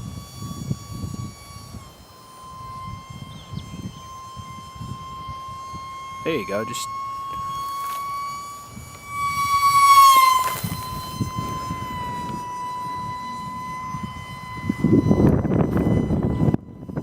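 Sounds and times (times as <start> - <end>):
rc jet fan whining: 0.0 - 17.0.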